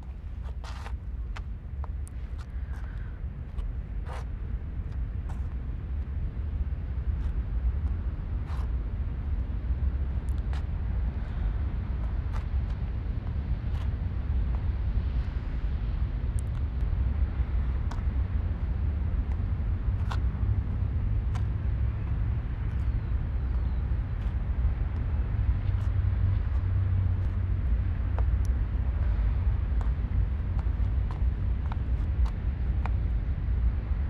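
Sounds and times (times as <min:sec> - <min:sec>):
low outdoor rumble: 0:00.0 - 0:34.0.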